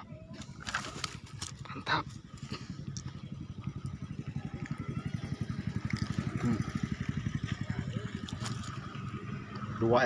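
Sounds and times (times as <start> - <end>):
small engine puttering: 0.1 - 10.0.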